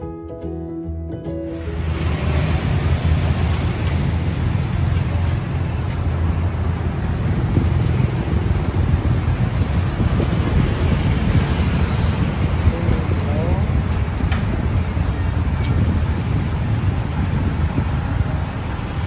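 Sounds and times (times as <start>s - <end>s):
street traffic rumble: 1.5s - 19.0s.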